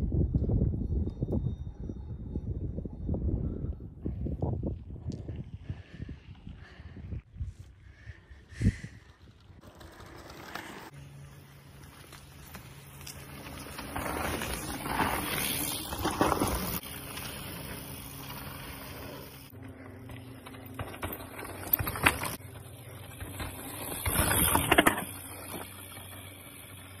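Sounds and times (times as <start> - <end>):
bike tyres crunching over dirt: 4.8 - 27.0.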